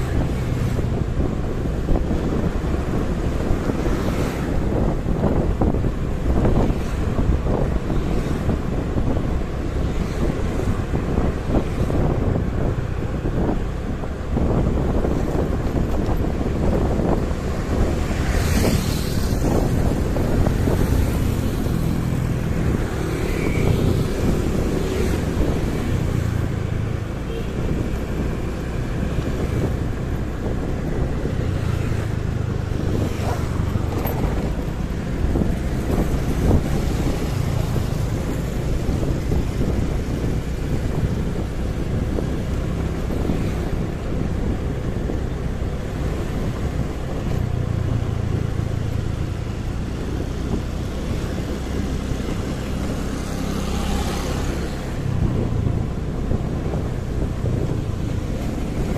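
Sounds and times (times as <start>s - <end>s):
vehicles passing by: 0.0s - 58.9s
wind buffeting microphone: 0.0s - 58.9s.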